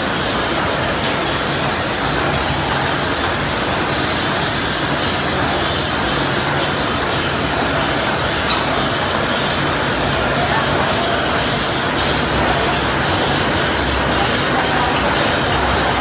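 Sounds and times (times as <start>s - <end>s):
bottle filling machine running: 0.0s - 16.0s.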